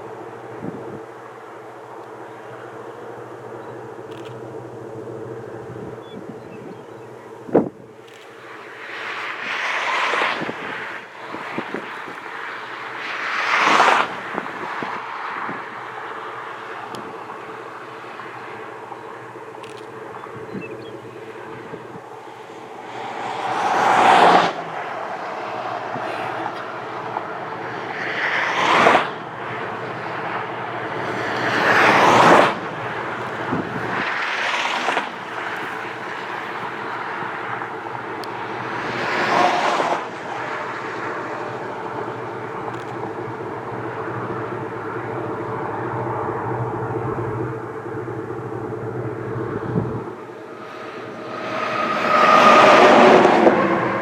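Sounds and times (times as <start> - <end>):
steady engine hum: 0.0 - 54.0
vehicles whooshing past: 7.5 - 54.0.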